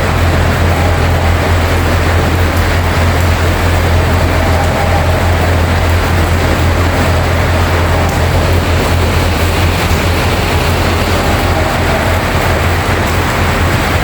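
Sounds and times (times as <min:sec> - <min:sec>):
heavy rain hissing: 0:00.0 - 0:14.0
low rumble: 0:00.0 - 0:14.0.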